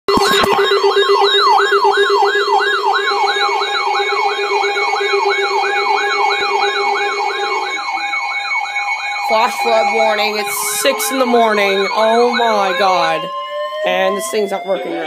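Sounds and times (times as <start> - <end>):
electronic siren yelping: 0.0 - 15.0.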